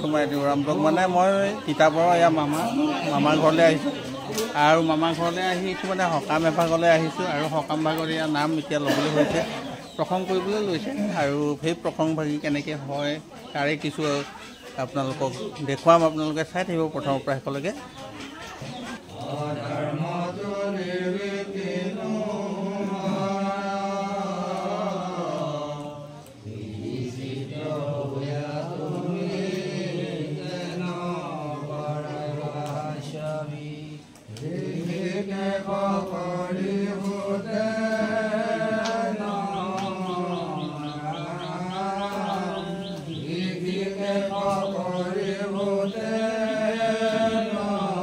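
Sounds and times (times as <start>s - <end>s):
men chanting: 0.0s - 17.5s, 18.7s - 48.0s.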